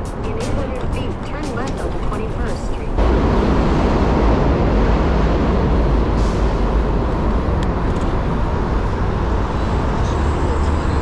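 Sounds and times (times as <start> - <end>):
city road traffic: 0.0 - 11.0
wind: 0.0 - 11.0.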